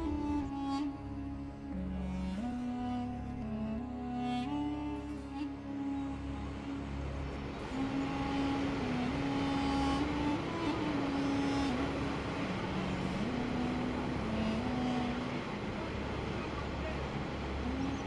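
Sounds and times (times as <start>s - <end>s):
slow melody of held notes: 0.0s - 18.0s
water and wind rushing: 0.0s - 18.0s.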